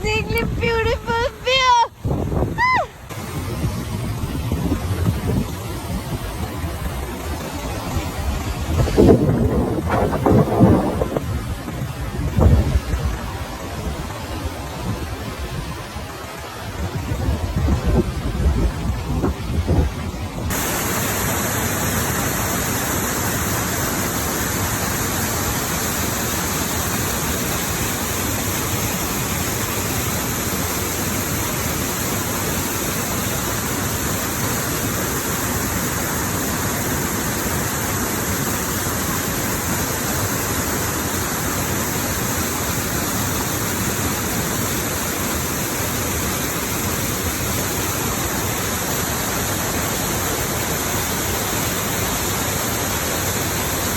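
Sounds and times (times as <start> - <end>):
fast-flowing water rushing: 0.0 - 53.9.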